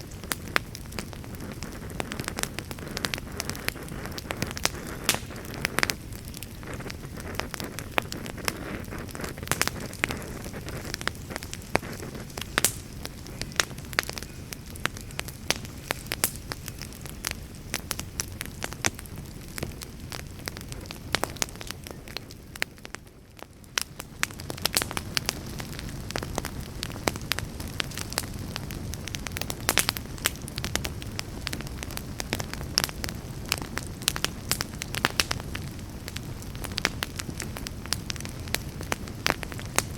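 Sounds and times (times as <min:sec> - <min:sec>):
campfire pops and snaps: 0:00.0 - 0:39.9
low rumble of burning wood: 0:00.0 - 0:39.9.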